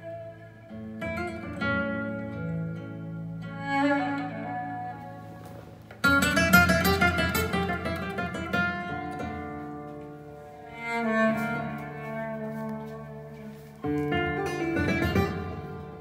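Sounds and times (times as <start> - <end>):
flamenco guitar music: 0.0 - 16.0.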